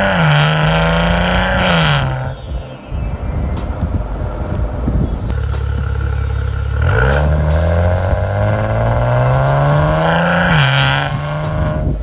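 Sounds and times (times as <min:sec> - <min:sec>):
car exhaust accelerating: 0:00.0 - 0:12.0.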